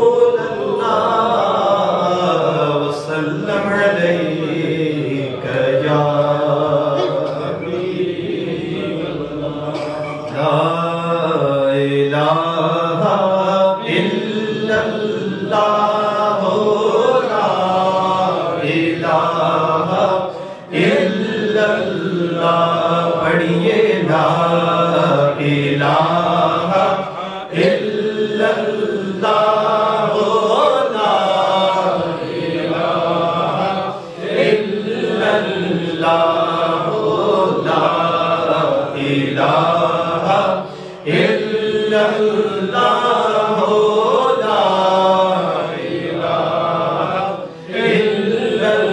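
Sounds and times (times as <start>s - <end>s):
man chanting into a microphone: 0.0s - 48.9s.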